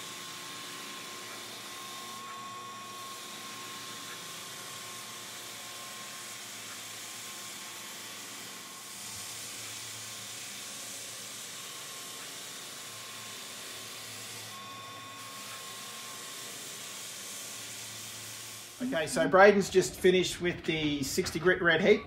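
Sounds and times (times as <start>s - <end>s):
floor sander sanding timber: 0.0s - 22.0s.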